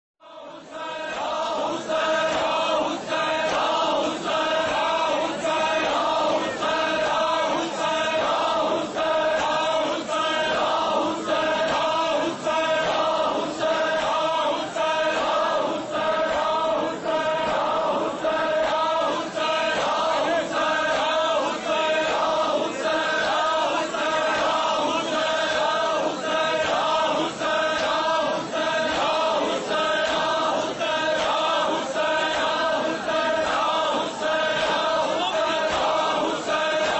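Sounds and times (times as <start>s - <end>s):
men chanting together: 0.2s - 36.9s.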